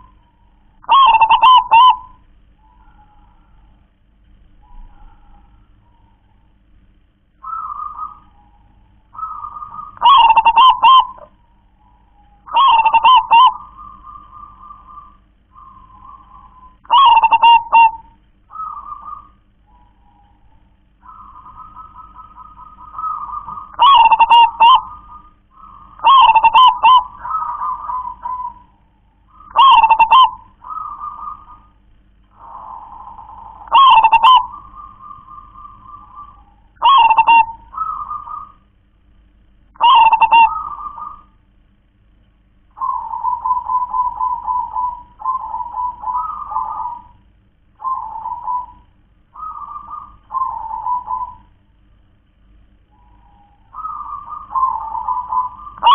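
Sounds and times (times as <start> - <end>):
dove cooing song: 0.0 - 41.7, 42.5 - 55.9
soft rolling trill: 0.0 - 55.9.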